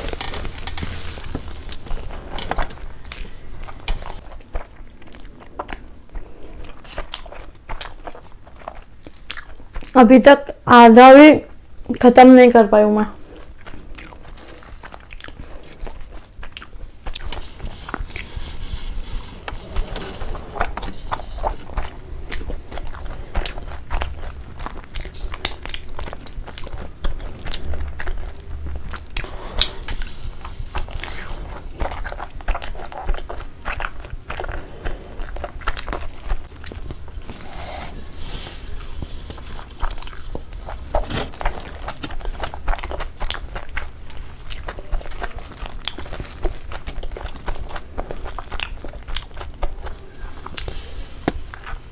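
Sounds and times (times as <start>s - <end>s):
person chewing food: 0.0s - 10.0s, 13.3s - 51.9s.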